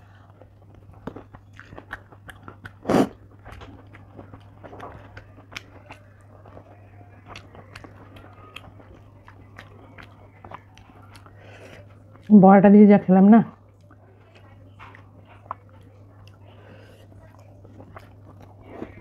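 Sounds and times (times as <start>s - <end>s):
chewing soft food: 0.0s - 12.8s, 13.5s - 19.0s.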